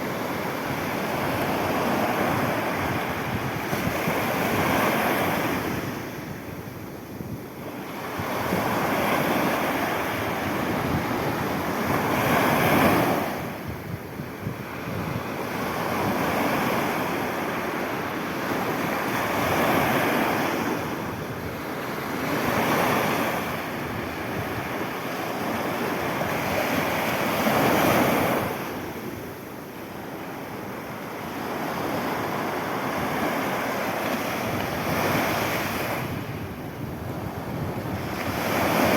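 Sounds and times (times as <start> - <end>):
sea waves breaking: 0.0 - 6.5, 7.6 - 38.9.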